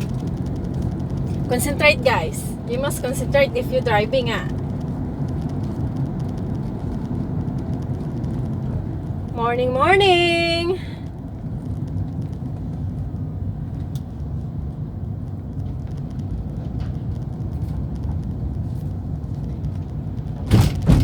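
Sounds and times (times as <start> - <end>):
engine and tyre rumble: 0.0 - 21.0.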